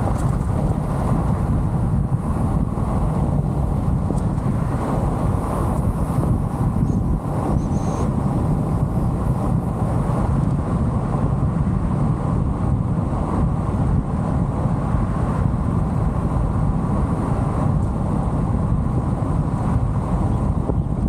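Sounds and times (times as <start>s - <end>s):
car road noise: 0.0s - 21.0s.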